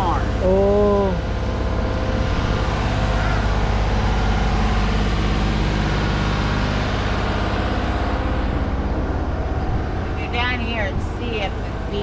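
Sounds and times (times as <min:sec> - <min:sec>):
stationary engine running: 0:00.0 - 0:12.0.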